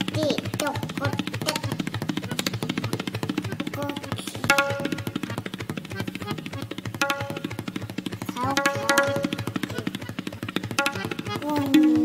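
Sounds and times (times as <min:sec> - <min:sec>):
tabla playing fast strokes: 0:00.0 - 0:12.0.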